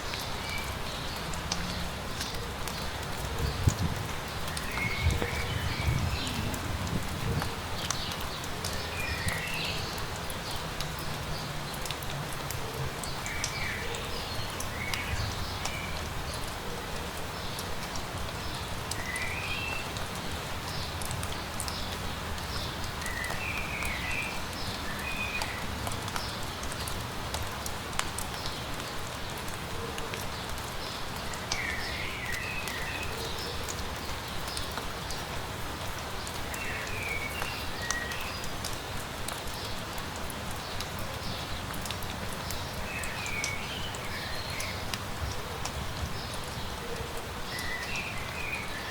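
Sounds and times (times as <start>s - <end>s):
light rain hissing: 0.0s - 48.9s
raindrops ticking: 0.0s - 48.9s.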